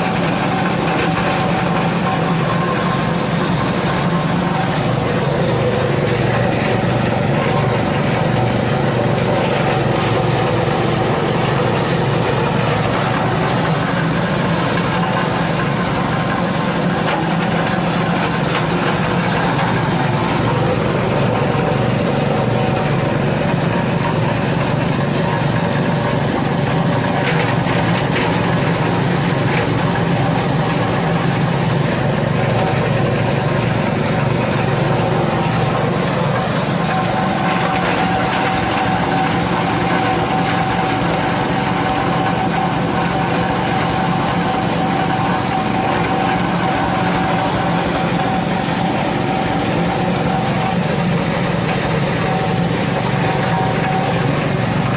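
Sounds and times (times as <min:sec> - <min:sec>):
grinding machine droning: 0:00.0 - 0:54.9
steady machine whine: 0:00.0 - 0:54.9.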